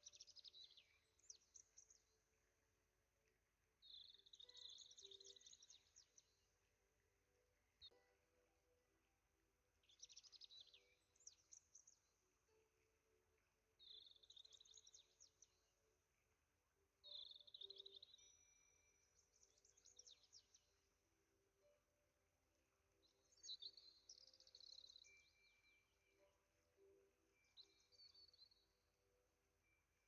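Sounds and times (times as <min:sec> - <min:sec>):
faint birdsong: 0:00.0 - 0:30.0.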